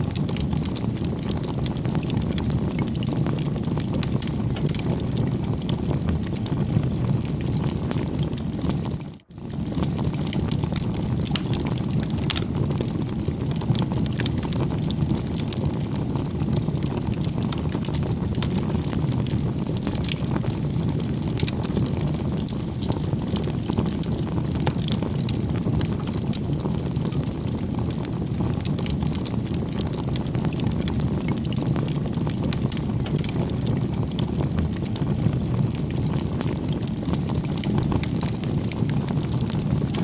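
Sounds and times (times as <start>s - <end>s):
burning wood crackling: 0.0s - 40.0s
low rumble of flames: 0.0s - 40.0s.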